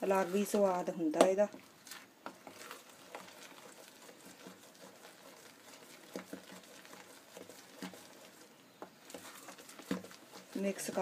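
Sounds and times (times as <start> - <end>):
batter being mixed by hand: 0.0 - 11.0.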